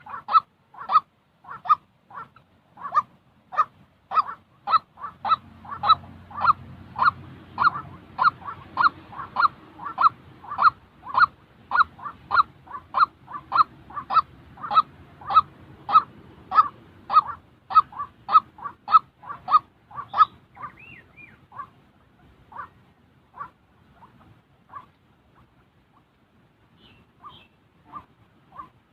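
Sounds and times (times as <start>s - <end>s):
waterhen calling harsh notes: 0.0s - 28.8s.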